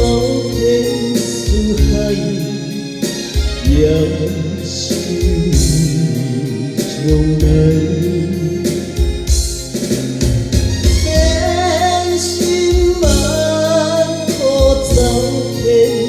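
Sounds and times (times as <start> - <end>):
keyboard and band backing: 0.0 - 16.0
person singing pop ballad: 0.0 - 16.0.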